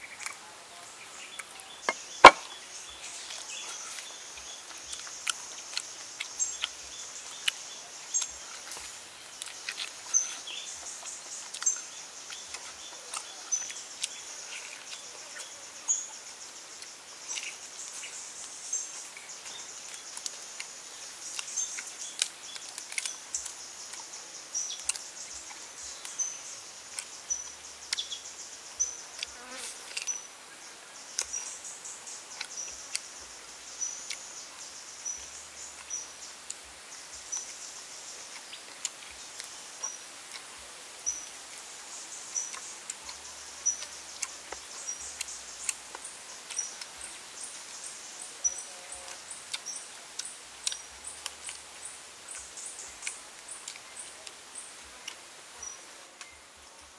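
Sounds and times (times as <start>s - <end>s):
close-up chewing and eating: 0.0s - 0.5s, 1.1s - 16.1s, 16.8s - 28.2s, 29.0s - 30.2s, 31.1s - 33.3s, 35.0s - 47.3s, 48.4s - 55.3s
insects chirping: 0.0s - 56.9s.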